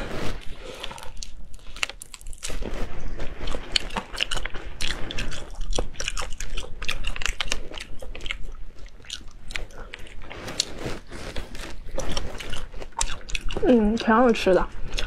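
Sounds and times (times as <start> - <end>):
crunchy chewing and biting: 0.0 - 15.0
wet mouth sounds: 0.0 - 15.0.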